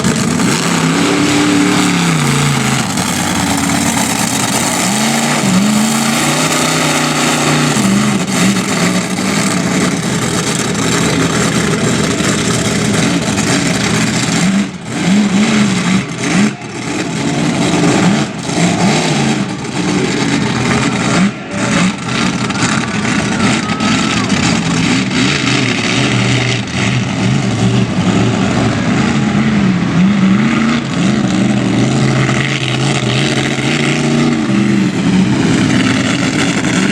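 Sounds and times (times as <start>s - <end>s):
monster truck engine revving: 0.0s - 36.9s.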